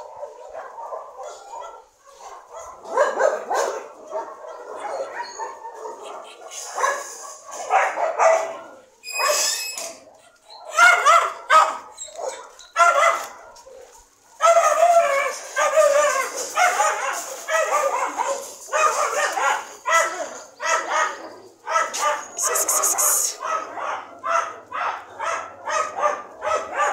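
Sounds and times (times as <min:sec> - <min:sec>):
dogs barking and yelping: 0:00.0 - 0:26.9.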